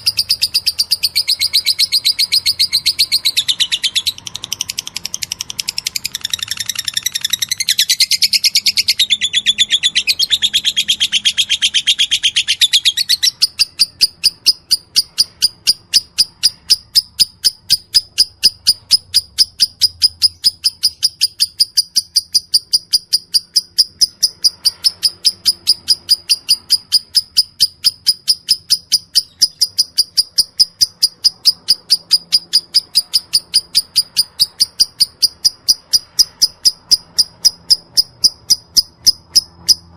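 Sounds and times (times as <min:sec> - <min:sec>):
lovebird chattering and chirping: 0:00.0 - 0:39.9.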